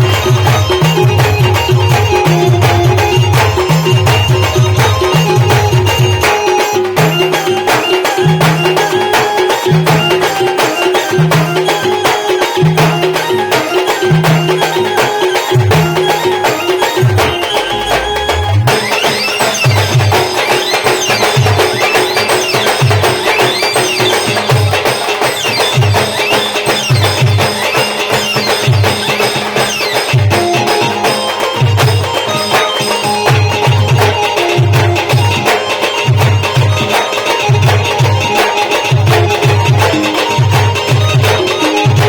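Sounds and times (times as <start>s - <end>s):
band playing folk music: 0.0s - 42.0s
steady drum beat: 0.0s - 42.0s.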